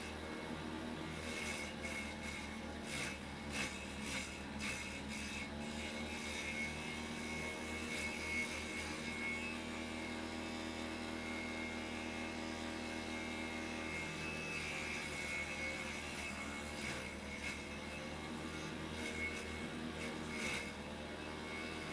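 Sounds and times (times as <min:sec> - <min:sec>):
electric motor humming: 0:00.0 - 0:21.9.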